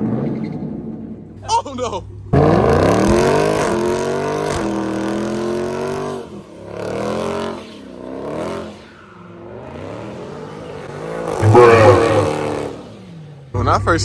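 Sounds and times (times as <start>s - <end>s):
supercharged car engine revving: 2.2s - 14.0s.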